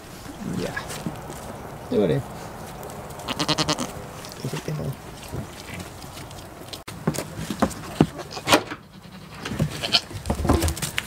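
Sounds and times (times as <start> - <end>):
hooves knocking and scuffing: 0.0 - 11.0.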